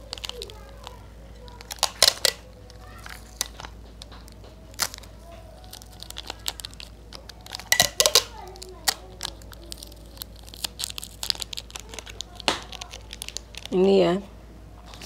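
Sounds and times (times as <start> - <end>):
sticky tape pulled and torn: 0.0 - 13.8
plastic wrapper crinkling: 0.0 - 14.2.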